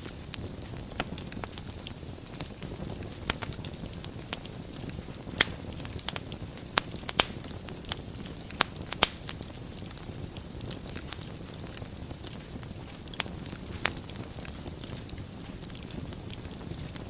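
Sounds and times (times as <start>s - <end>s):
fire popping: 0.0s - 17.0s
low rush of flames: 0.0s - 17.0s.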